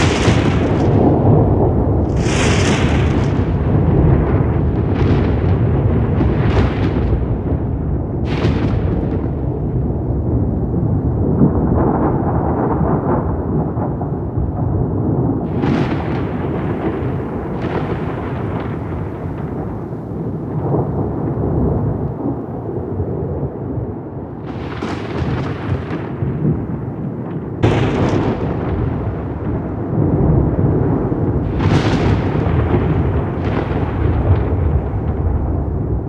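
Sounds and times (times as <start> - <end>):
deep rolling thunder: 0.0 - 36.0
thunder cracks: 0.0 - 36.0.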